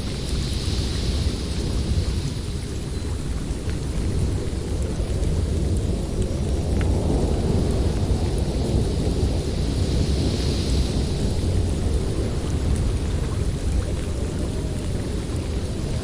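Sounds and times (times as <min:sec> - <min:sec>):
snowstorm wind in forest: 0:00.0 - 0:16.0.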